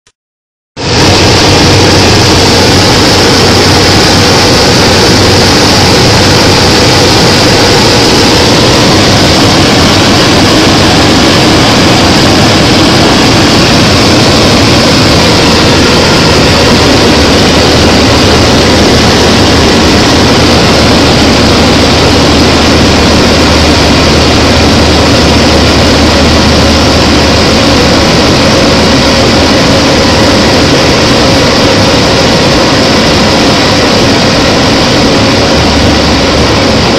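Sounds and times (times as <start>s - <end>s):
propeller aircraft engine drone: 0.8s - 36.9s.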